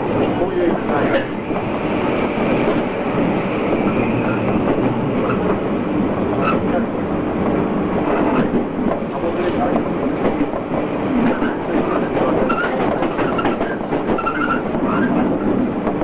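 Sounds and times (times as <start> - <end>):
train wheels and motors rumbling: 0.0 - 16.0.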